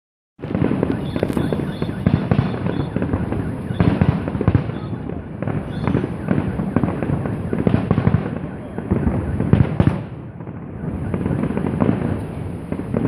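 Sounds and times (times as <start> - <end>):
fireworks crackling and banging: 0.4 - 13.0.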